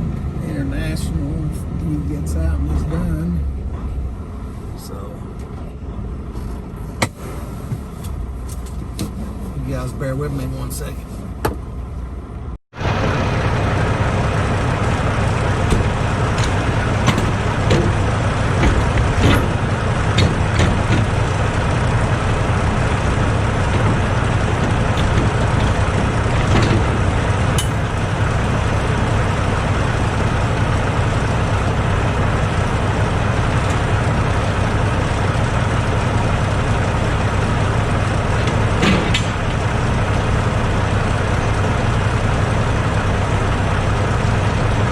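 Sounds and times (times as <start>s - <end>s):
diesel truck engine running: 0.0s - 44.9s.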